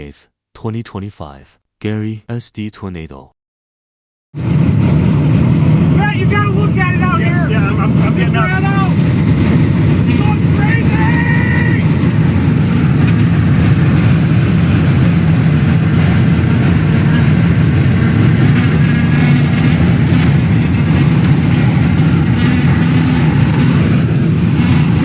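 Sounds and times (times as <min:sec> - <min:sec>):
strong wind buffeting microphone: 0:04.4 - 0:25.0.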